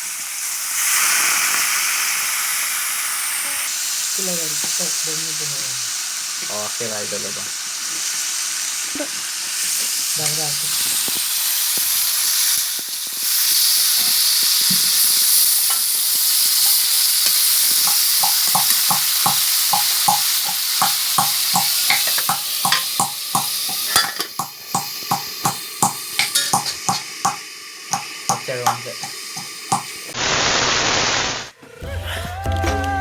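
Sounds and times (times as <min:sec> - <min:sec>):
food sizzling in hot oil: 0:00.0 - 0:31.6.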